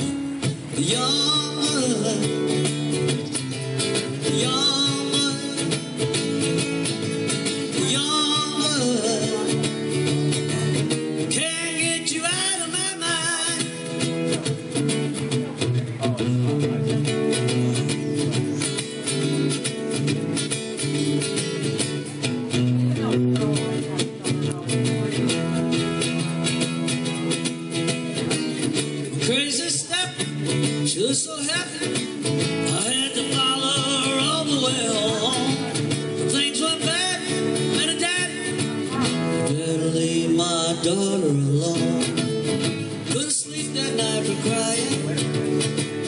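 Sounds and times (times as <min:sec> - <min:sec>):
acoustic guitar strumming: 0:00.0 - 0:46.0.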